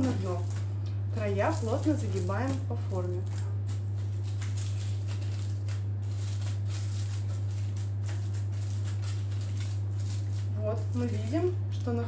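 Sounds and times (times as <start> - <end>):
aluminium foil crinkling: 0.0 - 12.0
steady low hum: 0.0 - 12.0.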